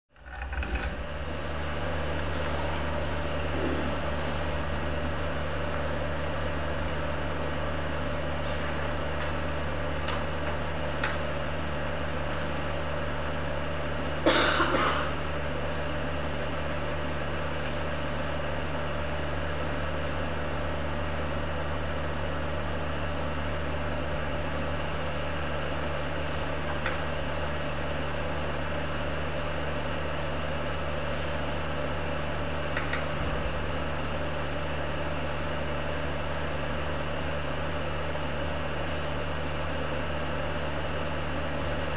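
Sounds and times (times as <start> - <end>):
steady low hum: 0.1 - 41.9.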